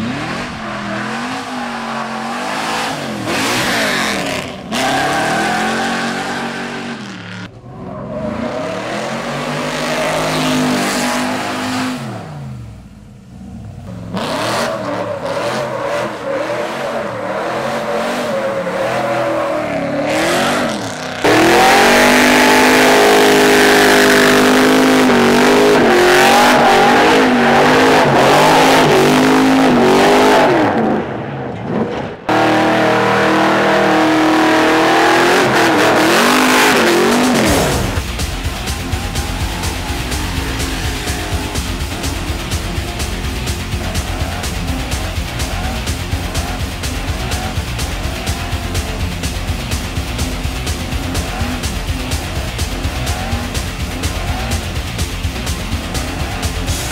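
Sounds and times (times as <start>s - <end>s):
engine revving: 0.0s - 56.9s.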